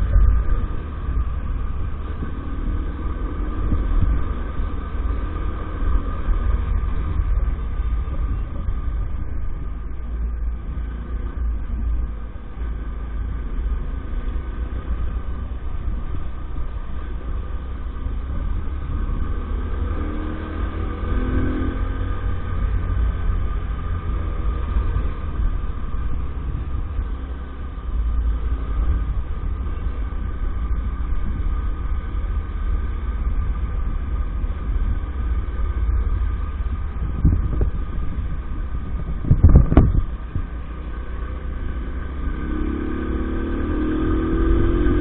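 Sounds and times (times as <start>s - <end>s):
low rumble: 0.0s - 45.0s.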